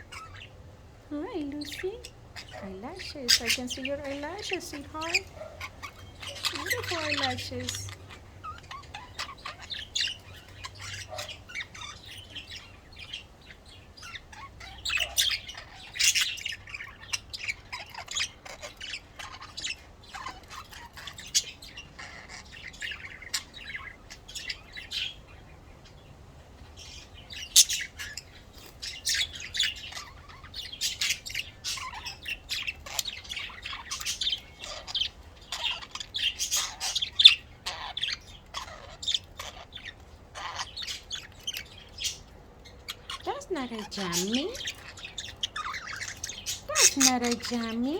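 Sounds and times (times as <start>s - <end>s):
budgerigars chattering: 0.0s - 47.9s.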